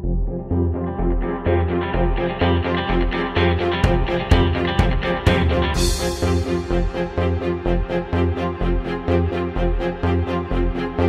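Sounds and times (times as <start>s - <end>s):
bass line: 0.0s - 11.0s
plucked string music: 0.6s - 11.0s.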